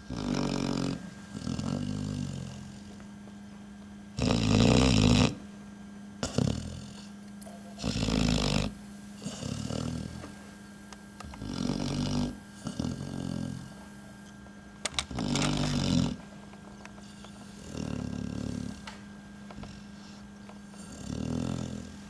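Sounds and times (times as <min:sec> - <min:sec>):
dog snoring: 0:00.0 - 0:03.0, 0:04.1 - 0:05.5, 0:06.2 - 0:07.2, 0:07.8 - 0:10.3, 0:11.2 - 0:13.9, 0:14.9 - 0:22.0.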